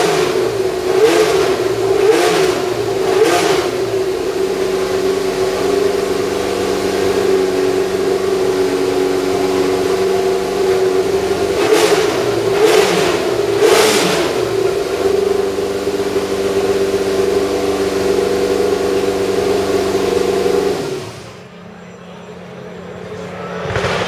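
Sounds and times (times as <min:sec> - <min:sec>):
engine throttle blips: 0:00.0 - 0:24.0
racing car engine running: 0:00.0 - 0:24.0.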